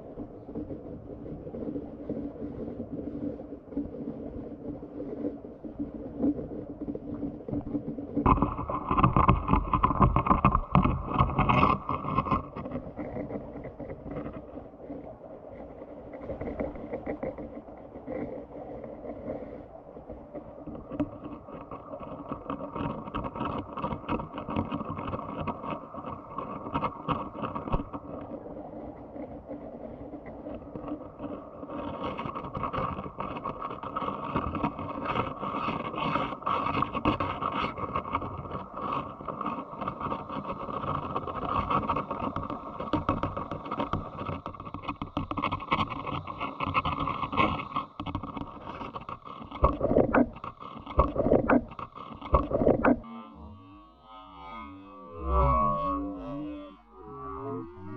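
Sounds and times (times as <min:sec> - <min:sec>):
small clicks and crackles: 0:00.0 - 0:57.9
underwater stream rush: 0:00.0 - 0:57.9.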